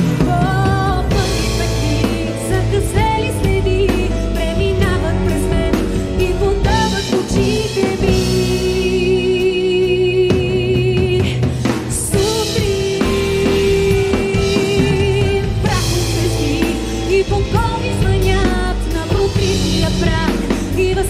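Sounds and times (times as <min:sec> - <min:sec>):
drum kit playing: 0:00.0 - 0:21.0
live band music: 0:00.0 - 0:21.0.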